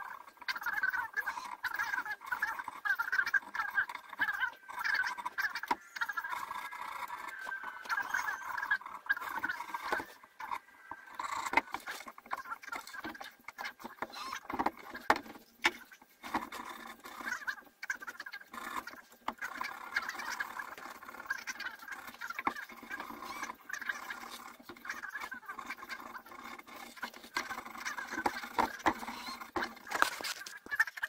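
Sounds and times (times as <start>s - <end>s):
cotton swab scratching wood: 1.0s - 30.9s.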